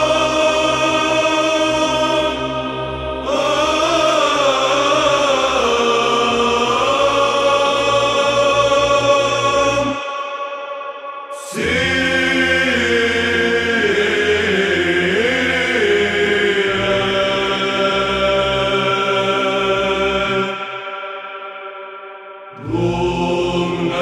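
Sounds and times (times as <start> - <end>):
group chanting melody: 0.0 - 24.0.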